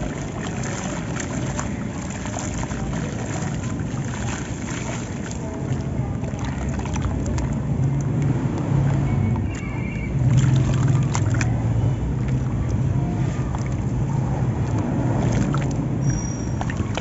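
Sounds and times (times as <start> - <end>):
grainy crackles: 0.0 - 17.0
hands sloshing muddy water: 0.0 - 17.0.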